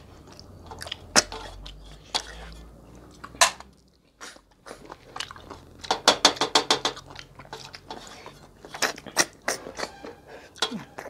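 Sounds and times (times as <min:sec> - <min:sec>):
slurping snails from shells: 0:00.0 - 0:11.0.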